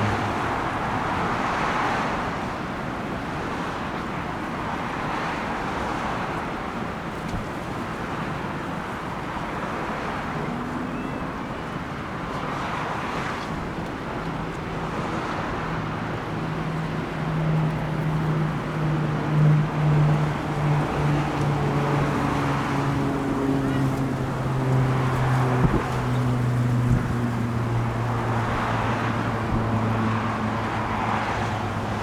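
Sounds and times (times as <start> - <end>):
road traffic: 0.0 - 32.0
wind: 0.0 - 32.0.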